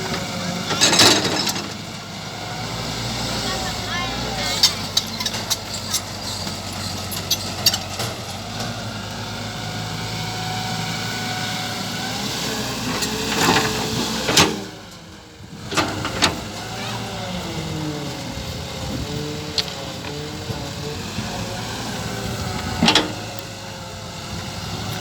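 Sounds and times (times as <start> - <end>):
model excavator motors whining: 0.0 - 25.0.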